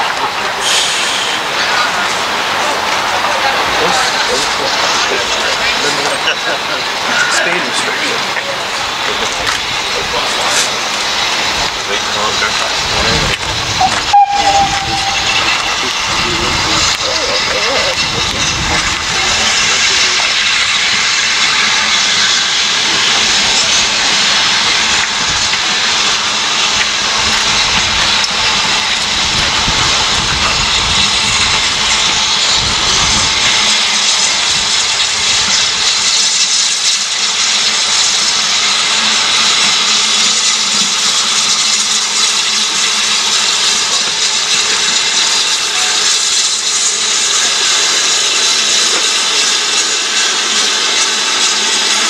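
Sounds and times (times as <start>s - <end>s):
locomotive rumbling on rails: 0.0s - 52.0s
steam hissing: 0.0s - 52.0s.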